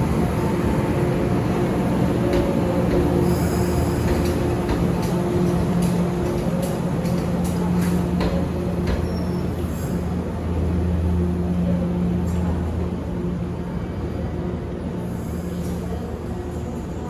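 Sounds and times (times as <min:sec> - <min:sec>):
electric train humming: 0:00.0 - 0:15.2.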